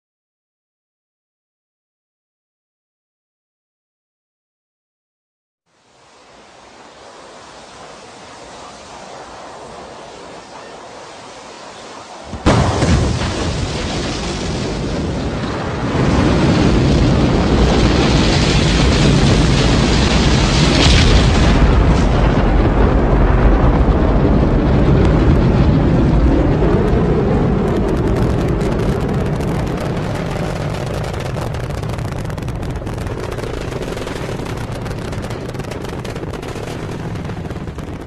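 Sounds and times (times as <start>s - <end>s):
rocket launch roar: 6.1s - 38.0s.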